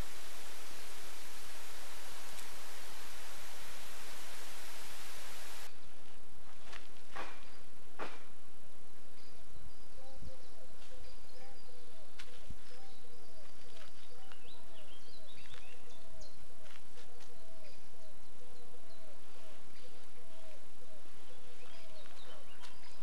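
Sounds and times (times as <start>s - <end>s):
birds chirping: 0.0s - 5.9s, 9.0s - 16.6s, 17.3s - 23.0s
steady background hiss: 0.0s - 23.0s.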